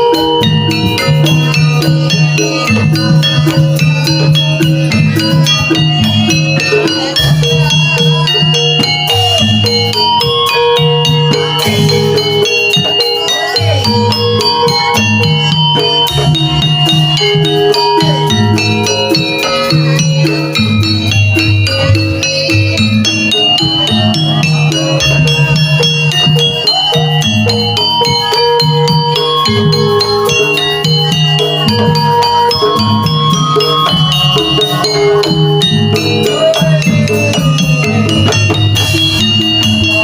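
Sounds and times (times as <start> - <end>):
dense rattling percussion: 0.0 - 40.0
metal percussion ringing: 0.0 - 40.0
repeating bass pattern: 0.0 - 40.0.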